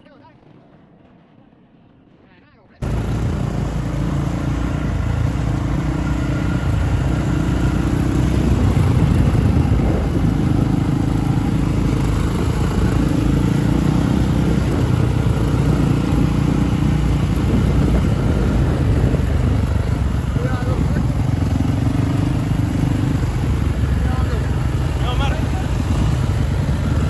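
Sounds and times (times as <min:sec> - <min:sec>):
motorcycle engine droning: 0:02.8 - 0:27.0.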